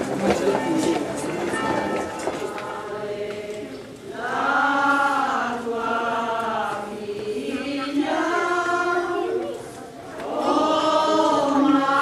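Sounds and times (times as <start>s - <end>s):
voices chanting in unison: 2.3s - 12.0s.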